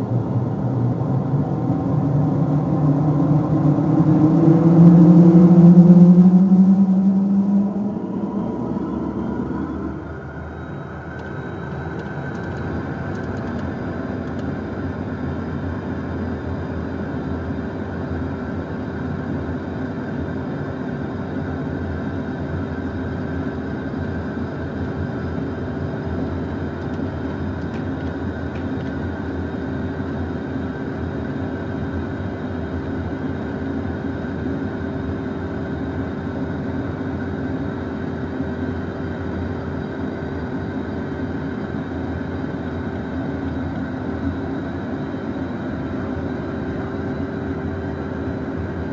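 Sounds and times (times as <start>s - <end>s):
jet cockpit mechanical hum: 0.0s - 48.9s.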